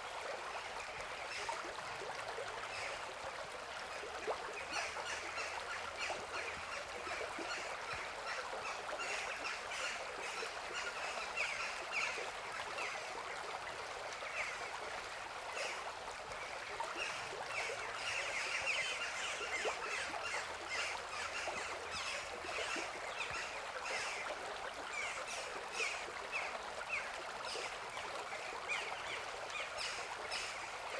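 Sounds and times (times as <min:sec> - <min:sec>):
river water flowing: 0:00.0 - 0:30.9.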